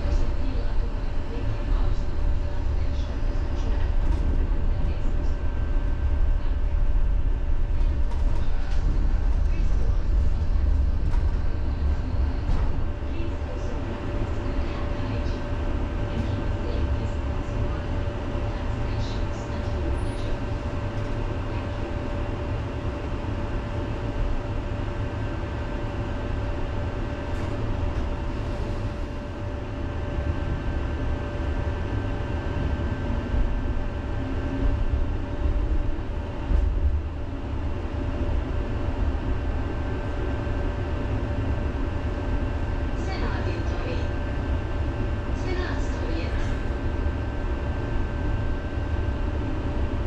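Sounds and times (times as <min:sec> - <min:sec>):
tram rumbling on rails: 0:00.0 - 0:50.0.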